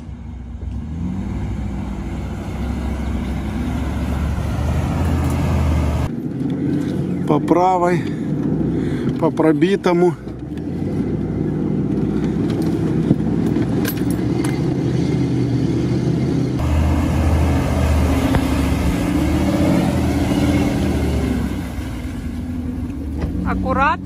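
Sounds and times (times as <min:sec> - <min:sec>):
car engine running: 0:00.0 - 0:24.0
engine rumbling in deep mud: 0:00.0 - 0:24.0.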